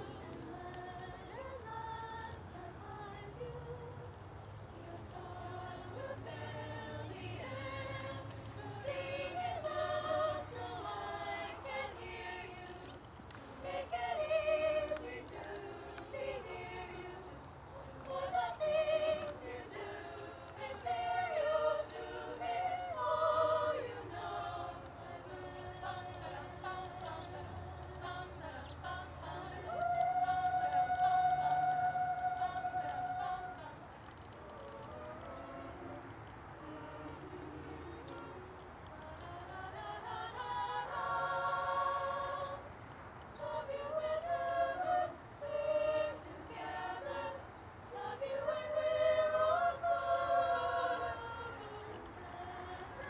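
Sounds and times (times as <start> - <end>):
choir of female voices singing: 0.0 - 53.0.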